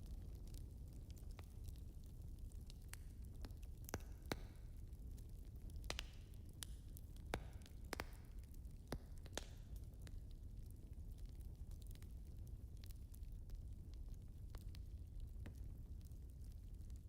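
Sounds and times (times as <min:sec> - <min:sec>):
fireplace fire rumbling: 0:00.0 - 0:17.0
wood crackling and popping: 0:00.0 - 0:17.0.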